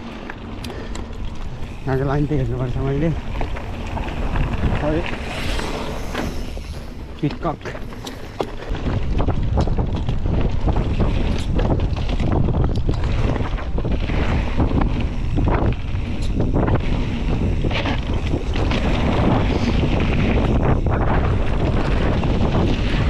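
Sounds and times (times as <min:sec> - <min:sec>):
bike parts rattling: 0:00.0 - 0:23.0
wind buffeting microphone: 0:00.0 - 0:23.0.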